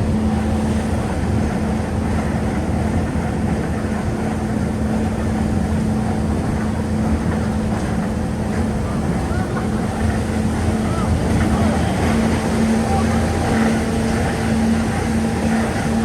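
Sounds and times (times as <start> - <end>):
rack train running drone: 0.0 - 16.0.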